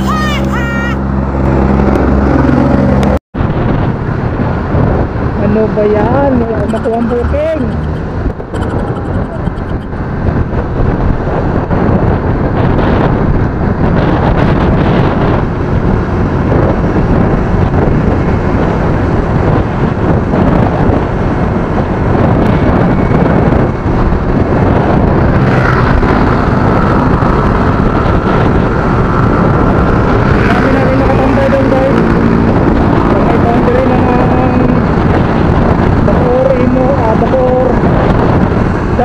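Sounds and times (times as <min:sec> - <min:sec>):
motorcycle riding at speed: 0:00.0 - 0:39.0
wind rush on microphone: 0:00.0 - 0:39.0.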